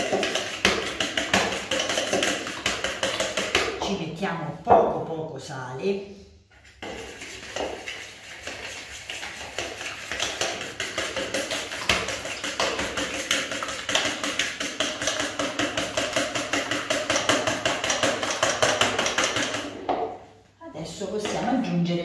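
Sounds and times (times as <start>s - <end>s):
fork beating eggs in plastic bowl: 0.0s - 3.9s, 6.5s - 20.3s.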